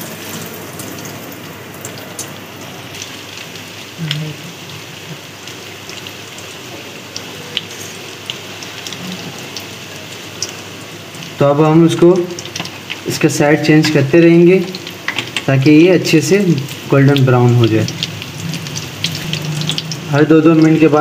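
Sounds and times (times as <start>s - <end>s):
deep-frying sizzle with pops: 0.0s - 21.0s.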